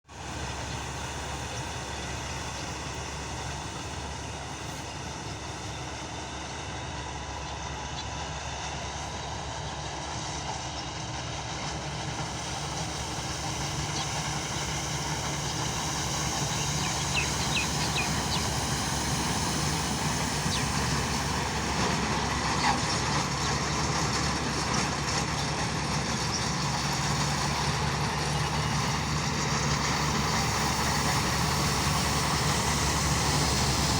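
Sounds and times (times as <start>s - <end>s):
combine harvester running: 0.0s - 33.9s.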